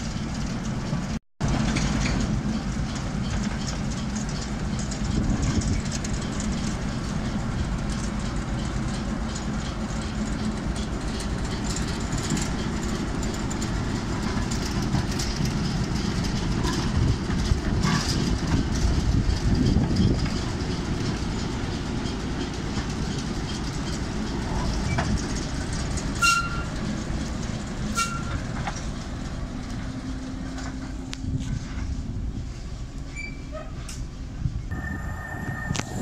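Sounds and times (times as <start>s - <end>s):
diesel locomotive engine running: 0.0s - 36.0s
wheels clicking on rails: 0.0s - 36.0s.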